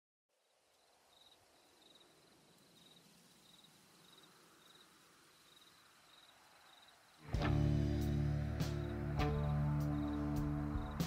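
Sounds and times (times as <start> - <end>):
cricket chirping: 0.3 - 11.0
soft hiss: 0.3 - 11.0.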